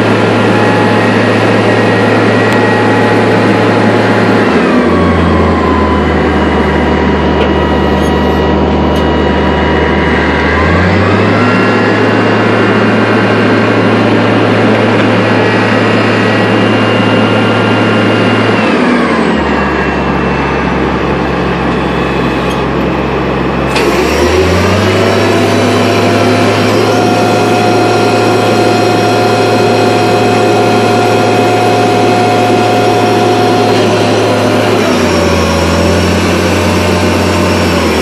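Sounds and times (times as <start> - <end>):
truck engine running with whine: 0.0 - 38.0.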